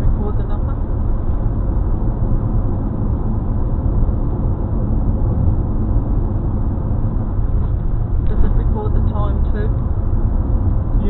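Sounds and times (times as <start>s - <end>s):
vehicle cabin road rumble: 0.0s - 11.0s.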